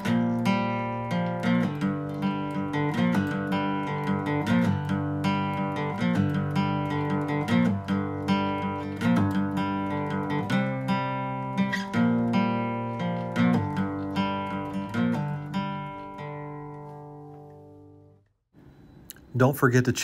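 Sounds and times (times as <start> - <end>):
acoustic guitar strumming chords: 0.0 - 18.2.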